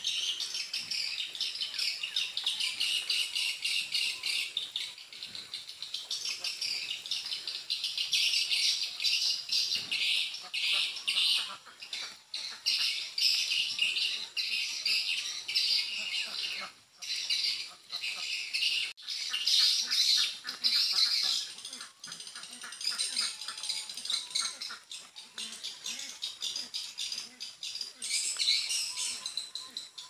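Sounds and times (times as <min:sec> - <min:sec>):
high-pitched bird chirping call: 0:00.0 - 0:30.0.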